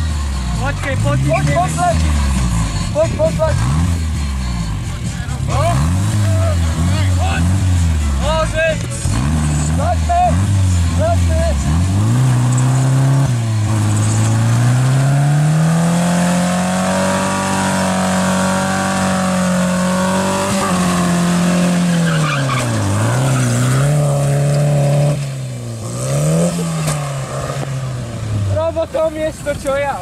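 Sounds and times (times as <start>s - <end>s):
rally car engine at high revs: 0.0s - 29.2s.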